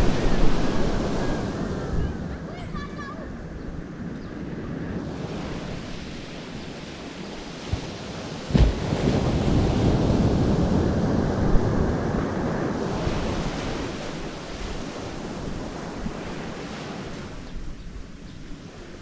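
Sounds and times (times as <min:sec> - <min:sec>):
rushing wind: 0:00.0 - 0:19.0
sea noise: 0:00.0 - 0:19.0
wind buffeting microphone: 0:00.0 - 0:19.0.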